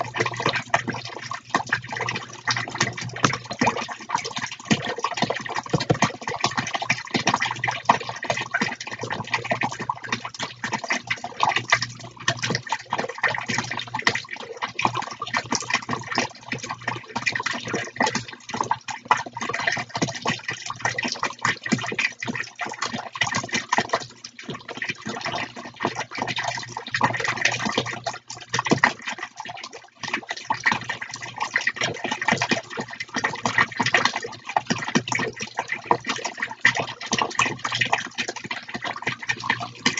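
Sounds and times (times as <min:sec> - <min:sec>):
fountains splashing: 0:00.0 - 0:39.9.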